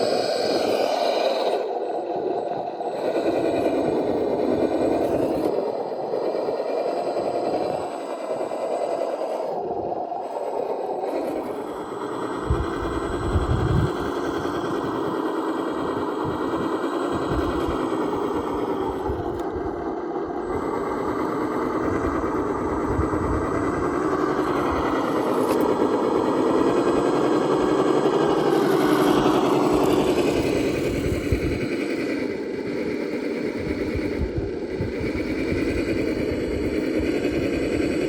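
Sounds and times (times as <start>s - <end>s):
electric motor whining: 0.0s - 31.7s.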